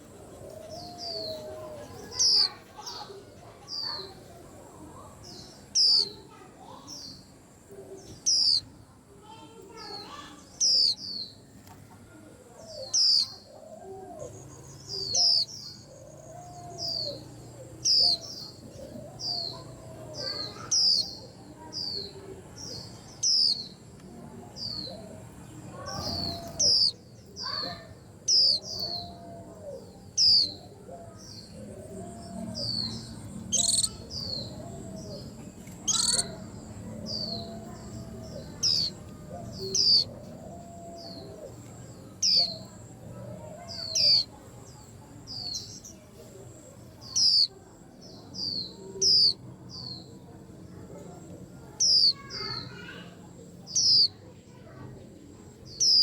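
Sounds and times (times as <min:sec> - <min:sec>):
bird chirping: 0:00.0 - 0:04.3, 0:05.0 - 0:07.3, 0:08.0 - 0:08.7, 0:09.3 - 0:11.4, 0:12.6 - 0:50.2, 0:51.0 - 0:54.2, 0:55.5 - 0:56.0.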